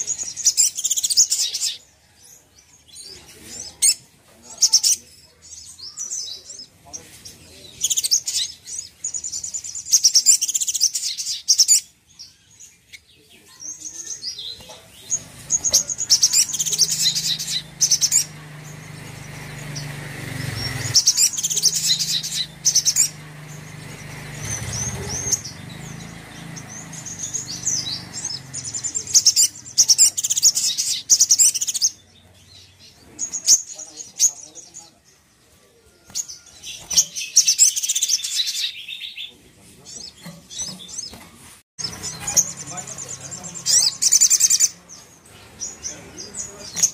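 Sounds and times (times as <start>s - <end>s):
bird chirping trills: 0.0s - 46.9s.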